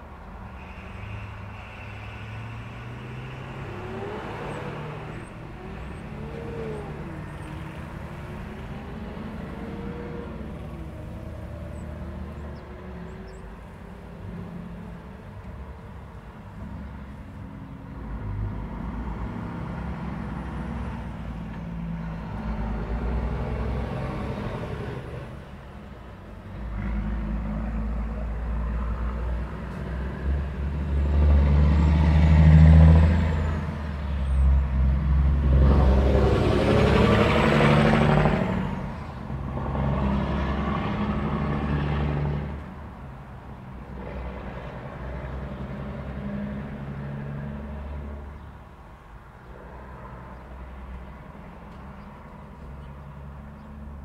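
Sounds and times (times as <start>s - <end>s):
engine rumble and tyre noise: 0.0s - 54.0s
vehicles passing: 0.0s - 54.0s.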